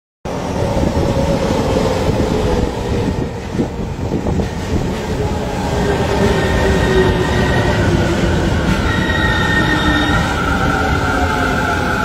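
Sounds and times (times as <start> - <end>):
train humming tone: 0.3 - 12.0
train wheels rumbling on rails: 0.3 - 12.0.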